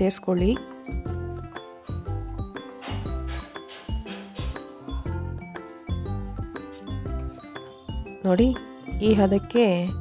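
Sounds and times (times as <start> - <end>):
instrumental music with low beat: 0.4 - 10.0.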